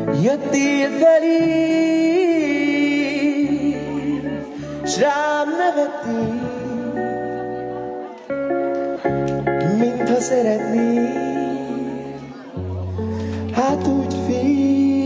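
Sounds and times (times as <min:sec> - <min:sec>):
man singing into a microphone: 0:00.0 - 0:08.1, 0:09.0 - 0:15.0
electronic keyboard chords: 0:00.0 - 0:15.0.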